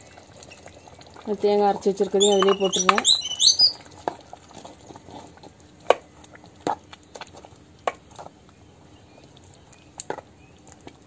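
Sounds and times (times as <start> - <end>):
wooden spoon stirring gravy: 0.2 - 11.0.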